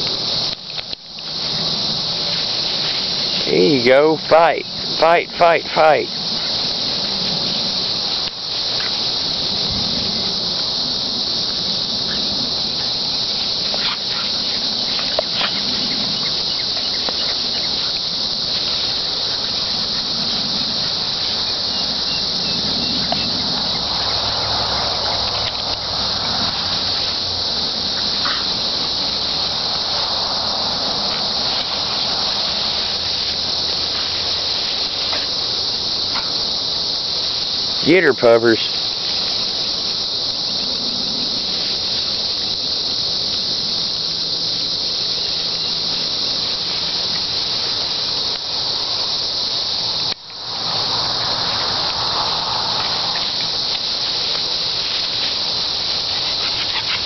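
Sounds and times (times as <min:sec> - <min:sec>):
dogs scuffling in grass: 0:00.0 - 0:57.0
high-pitched insect chorus: 0:00.0 - 0:57.0.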